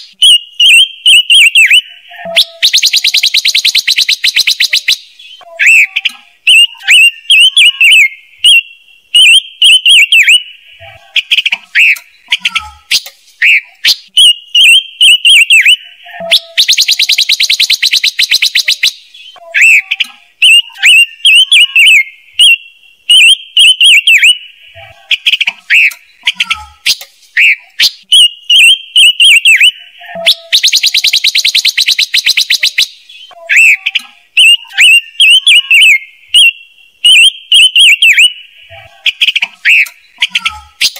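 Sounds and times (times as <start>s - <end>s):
bird whistled calls: 0.0s - 10.6s, 11.2s - 24.5s, 25.2s - 40.9s.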